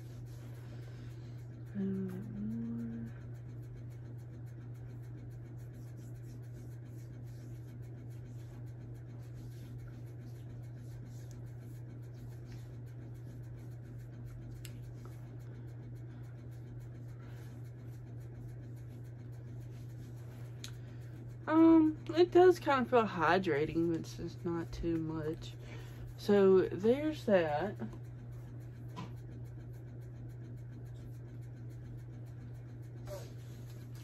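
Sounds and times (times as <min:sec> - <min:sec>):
low hum: 0:00.0 - 0:34.0
rubbing and scratching on skin: 0:00.0 - 0:34.0.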